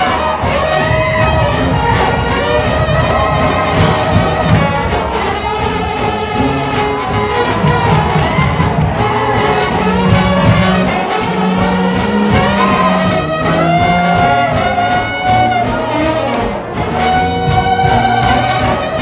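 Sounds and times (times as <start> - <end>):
dense music arrangement: 0.0 - 19.0.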